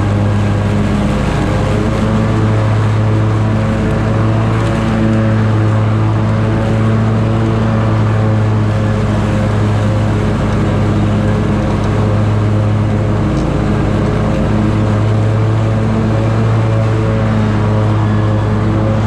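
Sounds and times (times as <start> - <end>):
mower blades cutting grass: 0.0 - 19.0
mower engine running: 0.0 - 19.0.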